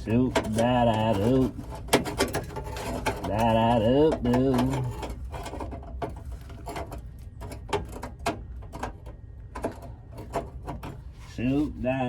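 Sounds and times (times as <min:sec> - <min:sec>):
clicks and knocks on sheet metal: 0:00.2 - 0:11.1.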